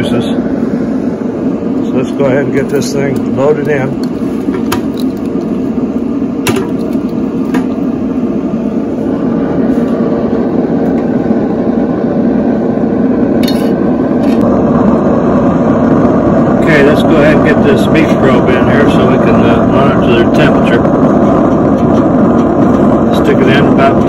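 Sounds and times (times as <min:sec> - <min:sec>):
steady rumbling: 0:00.0 - 0:24.0.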